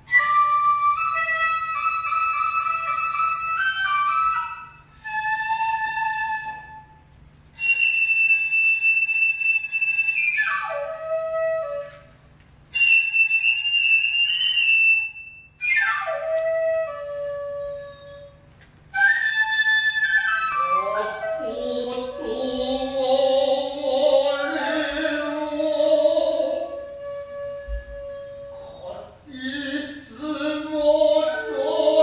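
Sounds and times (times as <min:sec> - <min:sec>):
bamboo flute solo: 0:00.0 - 0:32.0.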